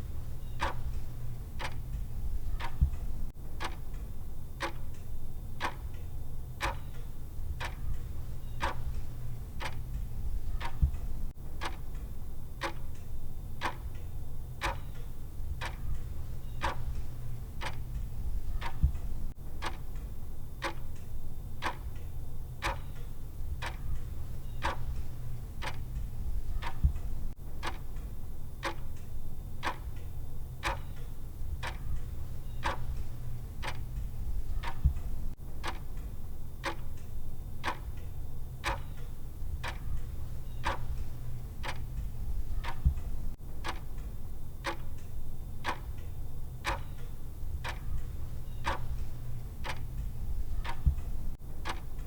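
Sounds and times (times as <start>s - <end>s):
clock ticking: 0.0s - 13.0s, 13.6s - 21.0s, 21.6s - 22.0s, 22.6s - 29.0s, 29.6s - 52.0s.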